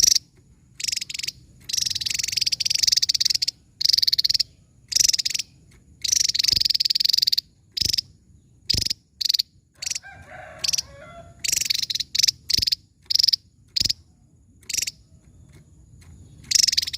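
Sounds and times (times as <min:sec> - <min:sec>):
bird calling in rattling bursts: 0:00.0 - 0:16.9.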